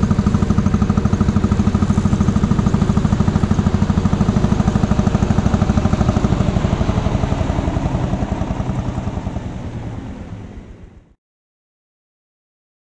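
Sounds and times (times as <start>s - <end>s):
single-cylinder tractor engine running: 0.0s - 11.2s.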